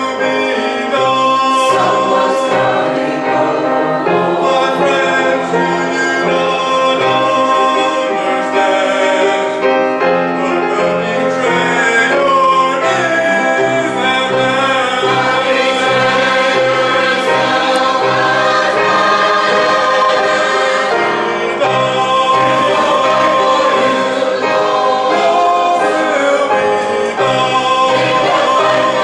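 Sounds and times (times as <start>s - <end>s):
choir singing a sacred piece: 0.0s - 29.0s
instrumental accompaniment: 0.0s - 29.0s.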